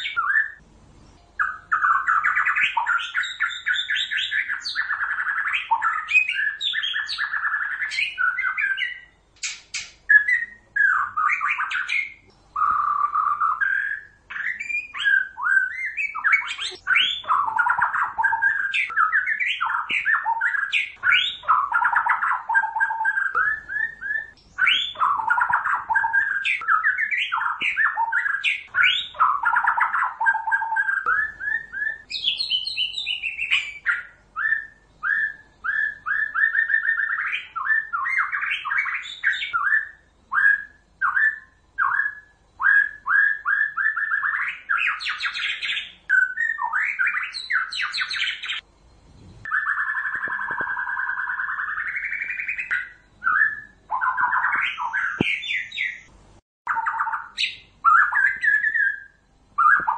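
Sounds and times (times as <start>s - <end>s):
bird singing whistled phrases: 0.0s - 0.6s, 1.4s - 48.6s, 49.4s - 56.1s, 56.7s - 59.9s.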